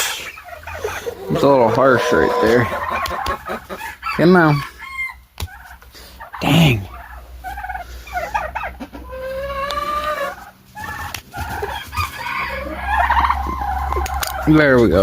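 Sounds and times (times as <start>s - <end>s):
poultry squawking and clucking: 0.0s - 15.0s.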